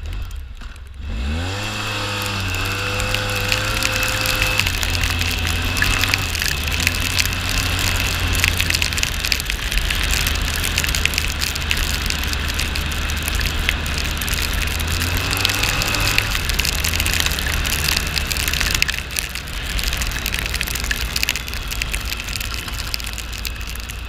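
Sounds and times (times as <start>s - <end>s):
wind and road noise: 0.0s - 24.0s
scattered ticks: 2.1s - 24.0s.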